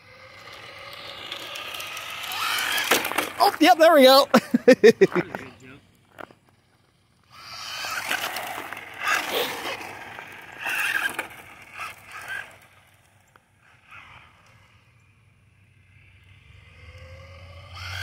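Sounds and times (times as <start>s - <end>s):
remote-control car driving past: 0.0s - 18.0s.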